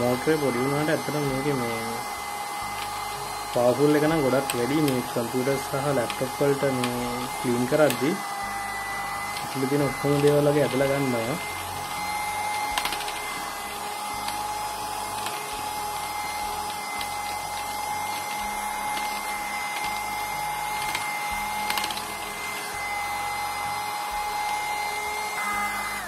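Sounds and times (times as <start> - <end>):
mini vacuum cleaner whining: 0.0 - 26.0.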